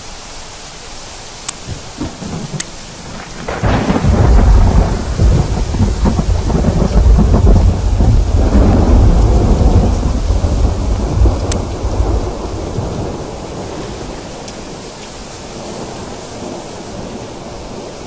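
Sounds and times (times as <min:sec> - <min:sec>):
steady rain hiss: 0:00.0 - 0:18.0
thunder rumbling: 0:01.5 - 0:18.0.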